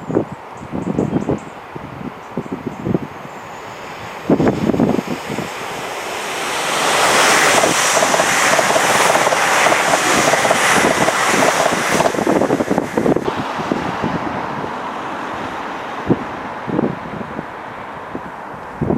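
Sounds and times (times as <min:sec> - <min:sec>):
wind buffeting microphone: 0:00.0 - 0:18.9
train passing: 0:01.5 - 0:18.8.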